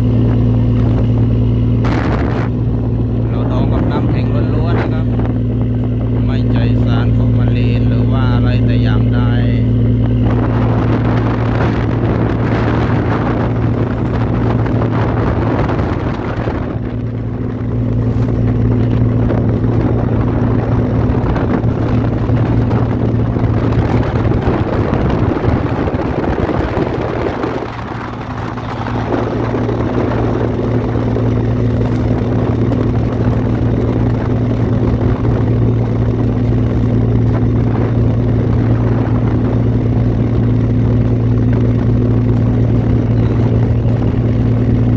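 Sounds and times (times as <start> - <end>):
boat engine droning: 0.0 - 44.9
water rushing: 0.0 - 44.9
wind noise: 0.0 - 44.9.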